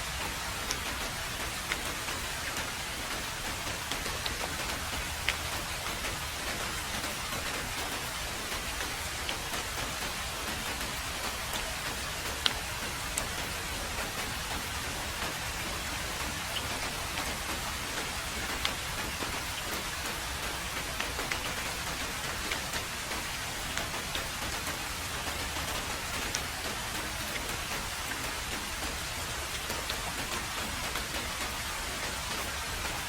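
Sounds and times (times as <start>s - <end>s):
heavy rain on a road: 0.0s - 33.0s
sharp raindrop ticks: 0.0s - 33.0s.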